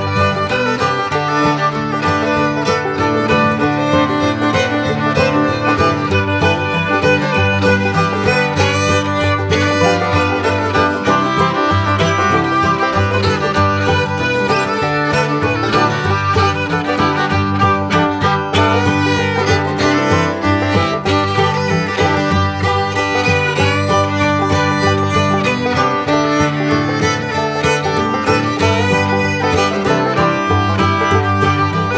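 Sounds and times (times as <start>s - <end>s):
country fiddle tune: 0.0s - 31.9s
plucked strings: 0.0s - 31.9s.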